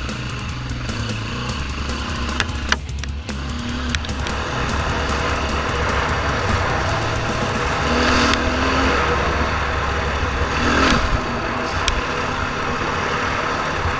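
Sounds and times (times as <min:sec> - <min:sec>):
dirt bike engine running: 0:00.0 - 0:13.9
wind noise on microphone: 0:01.7 - 0:13.9.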